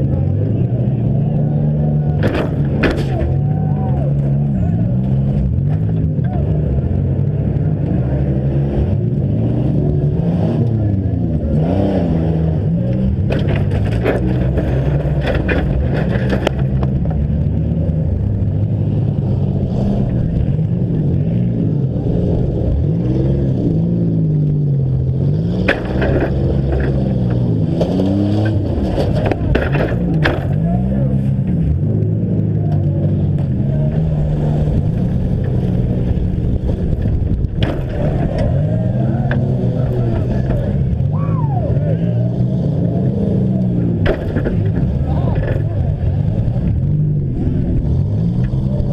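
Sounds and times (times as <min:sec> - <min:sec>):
engines revving: 0:00.0 - 0:48.9
vehicles crashing together: 0:01.1 - 0:07.1, 0:10.2 - 0:18.6, 0:19.6 - 0:48.9.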